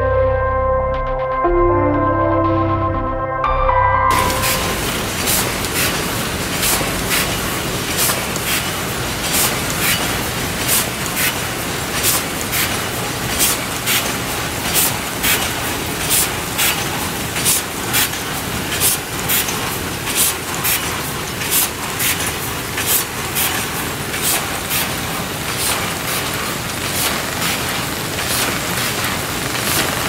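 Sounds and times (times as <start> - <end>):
machine clattering: 4.1 - 30.0.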